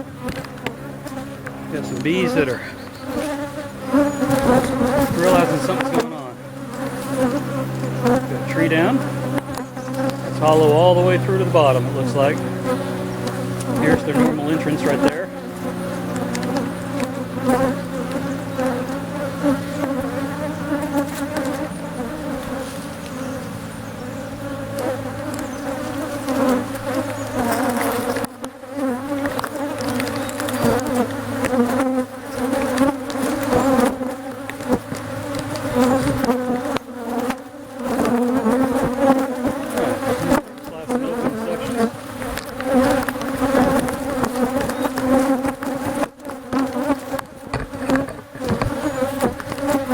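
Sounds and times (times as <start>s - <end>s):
honeybees buzzing: 0.0s - 49.9s.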